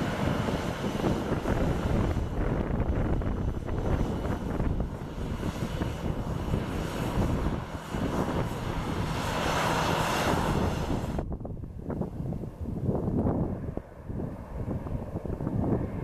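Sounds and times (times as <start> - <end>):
airliner engine rush and rumble: 0.0 - 16.0.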